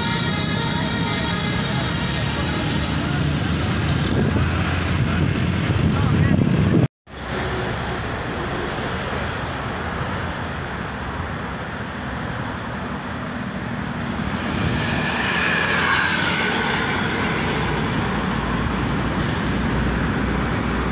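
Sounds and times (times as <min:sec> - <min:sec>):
road traffic: 0:00.0 - 0:20.9.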